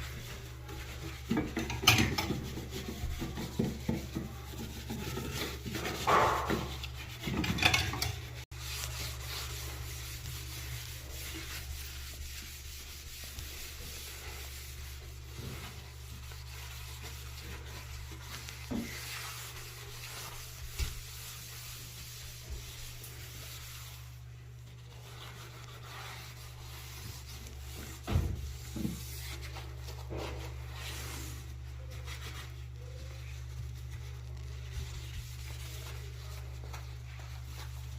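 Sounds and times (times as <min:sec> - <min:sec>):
hand scrubbing a surface: 0:00.0 - 0:37.9.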